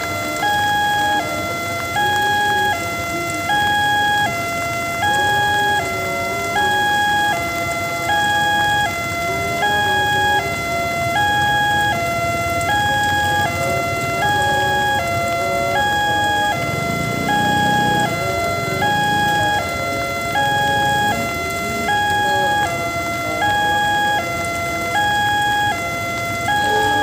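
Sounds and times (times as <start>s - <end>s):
two-tone crossing alarm: 0.0s - 27.0s.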